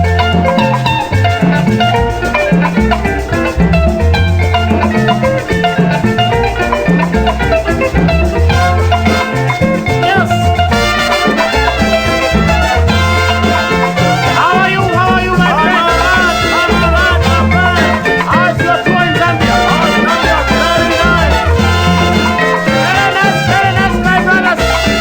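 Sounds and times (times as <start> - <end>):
bass line: 0.0 - 25.0
drums: 0.0 - 25.0
interlocking guitars: 0.0 - 25.0.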